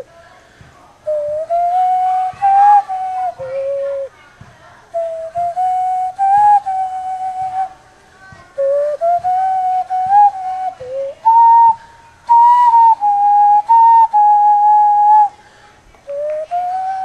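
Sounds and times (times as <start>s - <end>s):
hand whistling melody: 1.1s - 4.1s, 4.9s - 7.8s, 8.6s - 15.3s, 16.0s - 17.0s.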